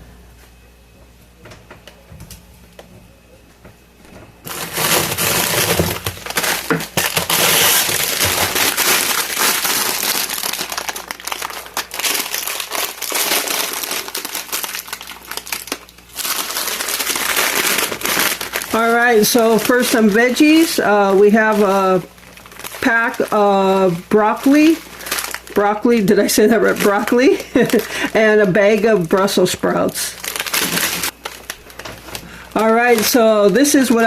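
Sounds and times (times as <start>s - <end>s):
plastic bags crinkling: 4.4s - 34.0s.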